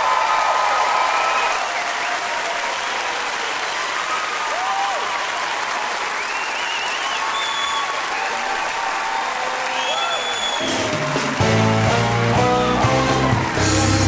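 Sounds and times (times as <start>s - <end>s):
audience clapping: 0.0s - 14.0s.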